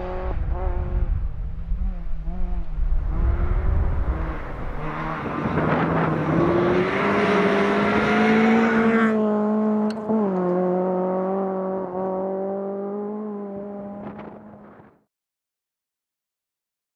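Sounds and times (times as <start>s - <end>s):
car engine at high revs: 0.0s - 14.9s.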